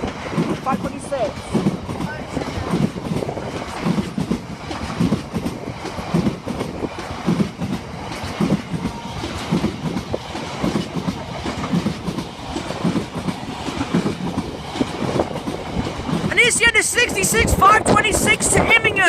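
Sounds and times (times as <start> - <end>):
train wheels clattering: 0.0 - 18.8
train rumble: 0.0 - 19.0.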